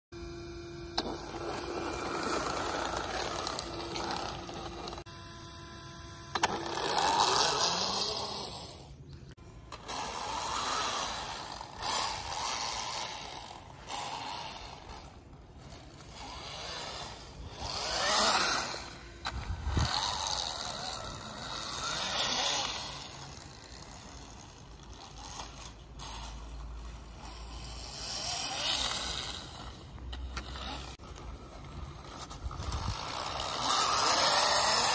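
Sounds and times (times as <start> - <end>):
model snowmobile motor whirring: 0.2 - 34.9.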